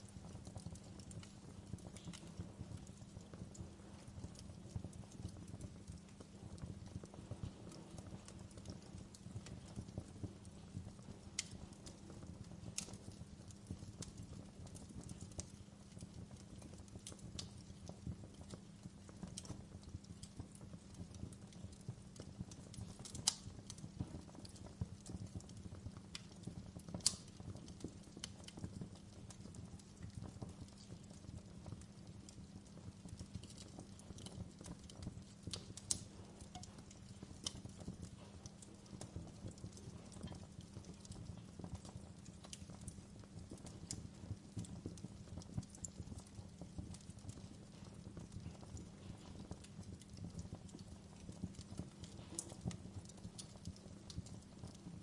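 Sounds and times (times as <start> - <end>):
low rumble of burning: 0.0 - 55.0
wood fire crackling and popping: 0.0 - 55.0.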